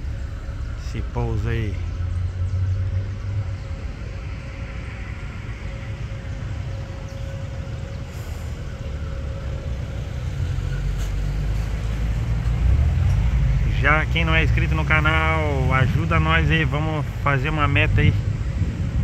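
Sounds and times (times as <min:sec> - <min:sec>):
heavy low rumble: 0:00.0 - 0:19.0
jet engines whining: 0:00.0 - 0:19.0.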